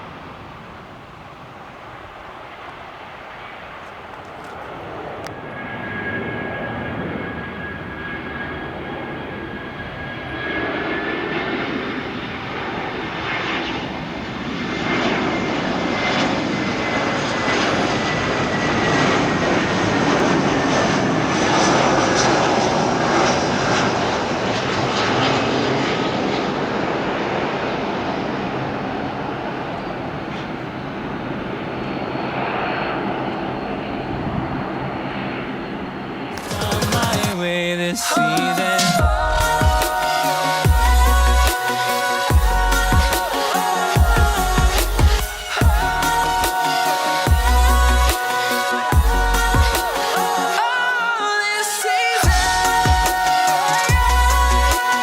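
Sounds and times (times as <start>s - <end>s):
jet engine roar with fan whine: 0.0s - 55.0s.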